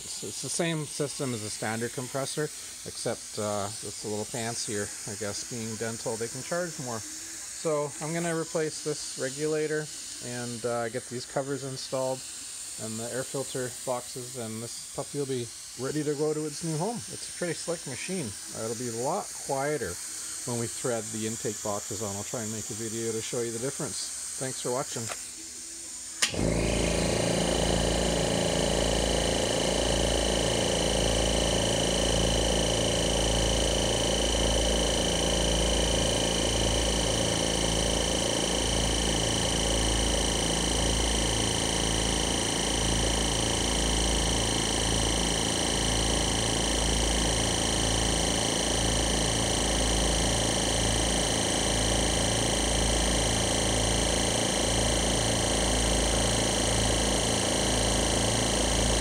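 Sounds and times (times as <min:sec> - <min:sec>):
air compressor motors running: 0:00.0 - 0:59.0.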